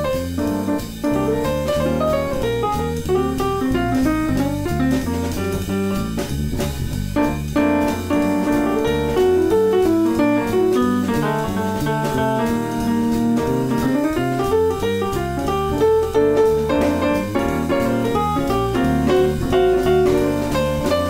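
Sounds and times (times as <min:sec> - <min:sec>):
jazz music: 0:00.0 - 0:21.0.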